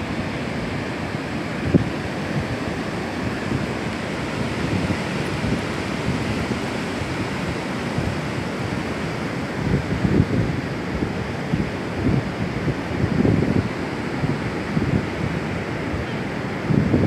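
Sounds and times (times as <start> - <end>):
ocean surf breaking on beach: 0.0 - 17.0
wind buffeting microphone: 0.0 - 17.0.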